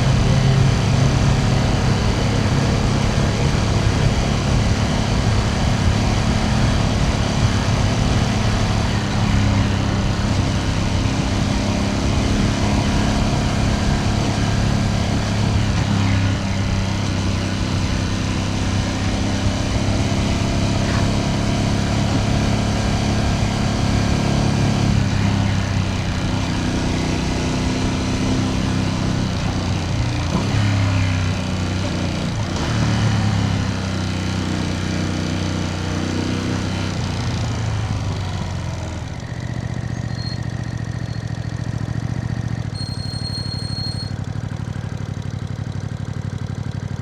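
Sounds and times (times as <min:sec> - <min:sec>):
motorcycle engine cruising: 0:00.0 - 0:47.0.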